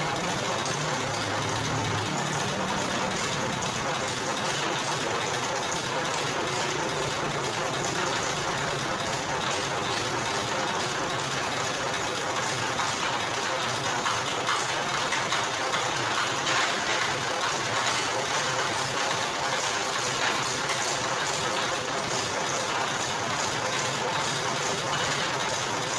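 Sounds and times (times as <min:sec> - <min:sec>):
juice press motor humming: 0:00.0 - 0:25.9.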